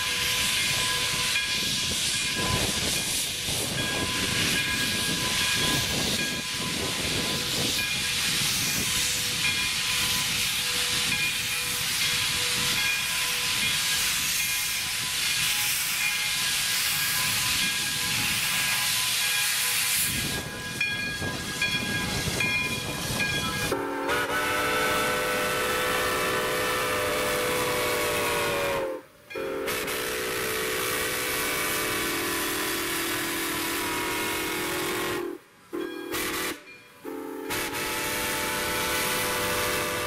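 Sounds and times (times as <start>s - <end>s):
steam locomotive hissing: 0.0s - 40.0s.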